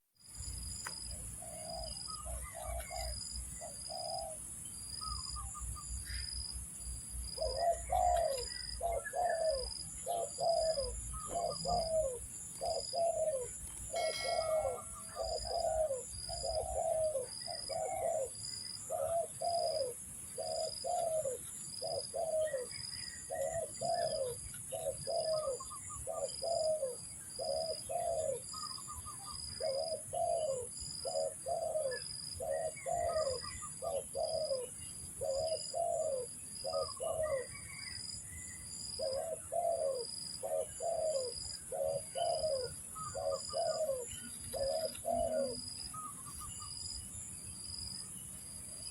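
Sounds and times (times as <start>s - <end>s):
dove cooing: 1.2s - 38.0s, 38.9s - 46.7s.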